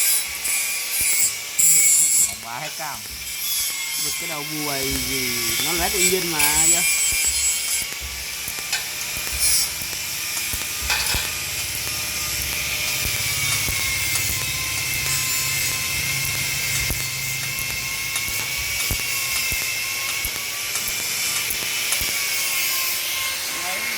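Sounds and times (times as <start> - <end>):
welding arc buzzing hiss: 0.0 - 23.9.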